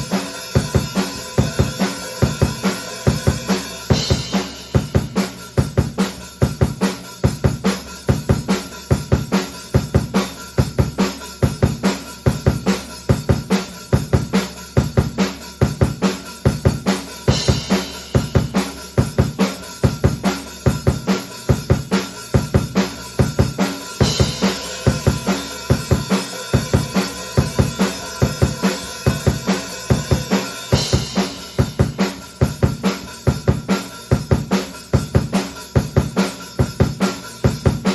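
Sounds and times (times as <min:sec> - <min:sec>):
kick and snare drum groove: 0:00.0 - 0:37.9.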